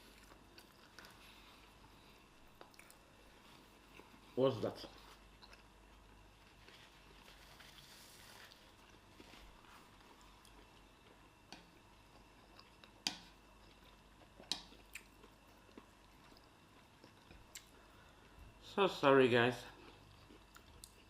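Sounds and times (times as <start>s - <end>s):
quiet chewing: 0.0s - 18.6s, 19.6s - 21.0s.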